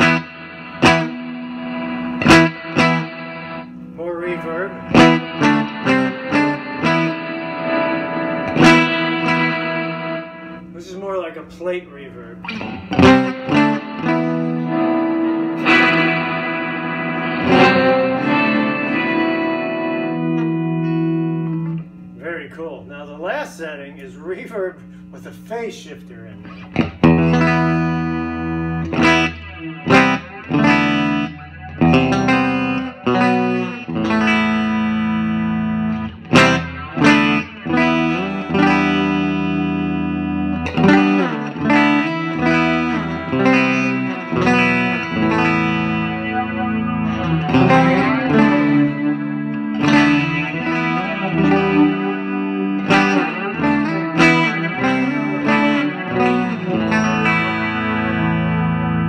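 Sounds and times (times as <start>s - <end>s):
electric guitar with reverb: 0.0s - 59.0s.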